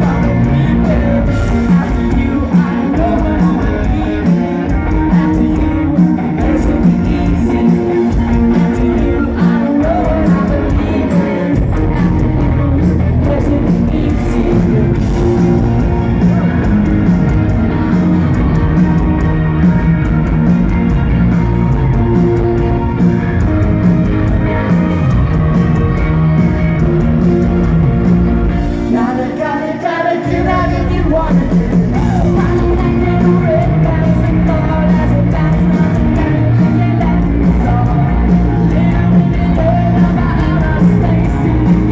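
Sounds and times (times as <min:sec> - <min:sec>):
person singing: 0:00.0 - 0:27.6, 0:28.6 - 0:41.9
live rock band playing: 0:00.0 - 0:41.9.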